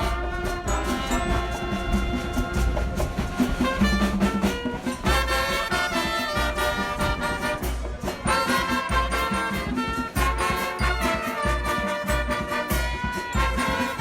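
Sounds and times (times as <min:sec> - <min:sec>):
background music with brass melody: 0:00.0 - 0:14.0.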